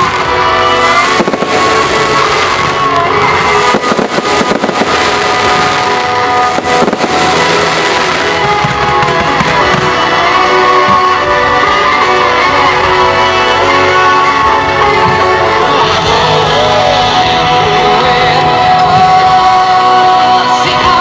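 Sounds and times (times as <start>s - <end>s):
fireworks bursting: 0.0s - 20.8s
music: 0.0s - 21.0s.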